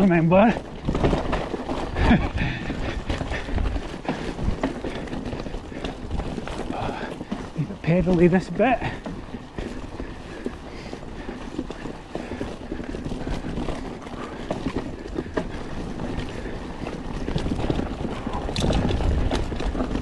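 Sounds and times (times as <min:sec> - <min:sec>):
bike rattling: 0:00.0 - 0:20.0
bike tyres rolling on rough ground: 0:00.0 - 0:20.0.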